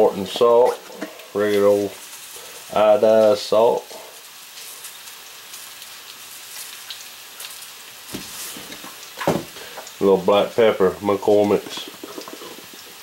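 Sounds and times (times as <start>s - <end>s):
faint sizzle from stove: 0.0s - 13.0s
salt sprinkling onto meat: 0.0s - 13.0s.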